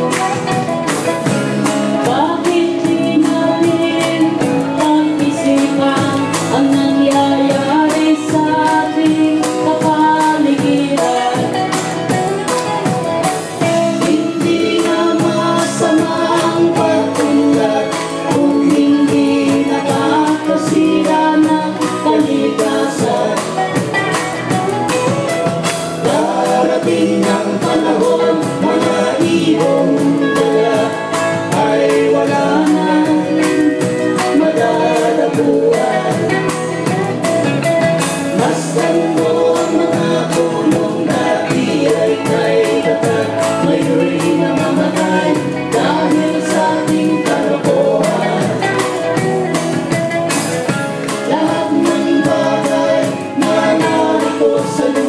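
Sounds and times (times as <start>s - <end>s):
person singing: 0.0s - 24.9s, 25.9s - 50.3s, 51.0s - 55.0s
acoustic and electric guitars: 0.0s - 55.0s
drum kit steady beat: 0.0s - 55.0s.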